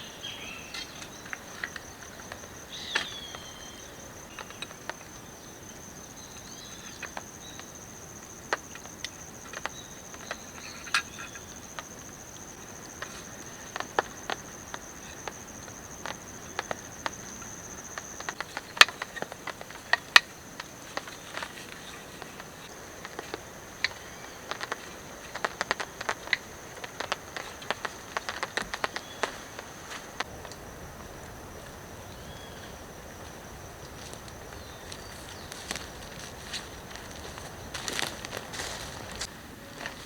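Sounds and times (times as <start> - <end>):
insect high-pitched drone: 0.0 - 40.0.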